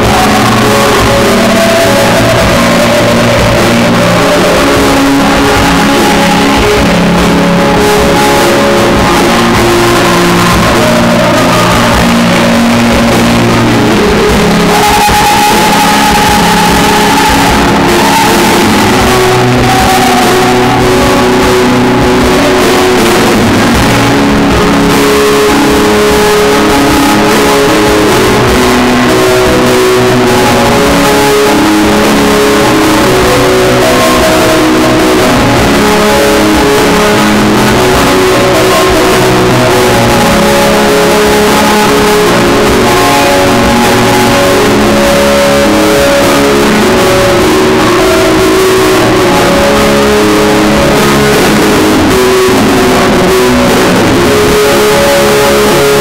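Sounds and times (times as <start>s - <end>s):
electric guitar holding notes: 0.0s - 56.0s
loud live rock music: 0.0s - 56.0s.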